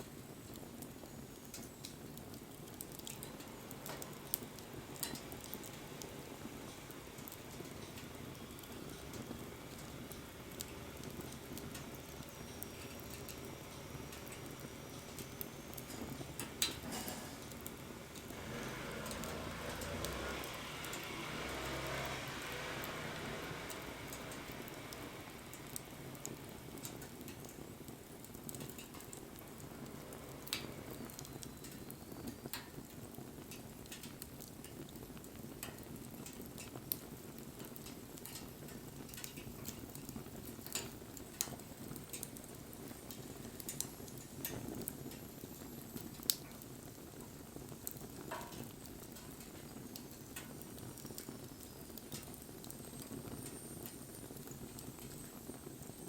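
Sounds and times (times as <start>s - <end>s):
sharp pops of fire: 0.0s - 56.0s
wood fire crackling: 0.0s - 56.0s.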